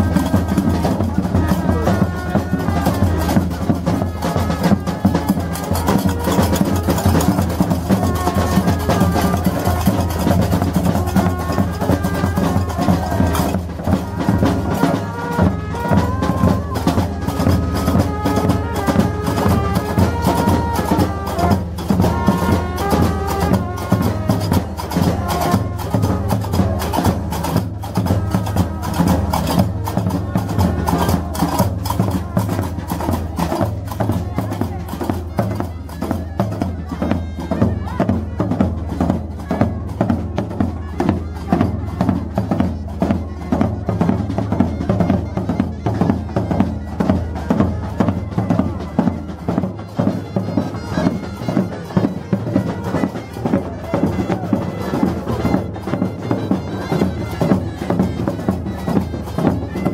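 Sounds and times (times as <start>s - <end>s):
clacking hand percussion: 0.0s - 59.9s
drums: 0.0s - 59.9s.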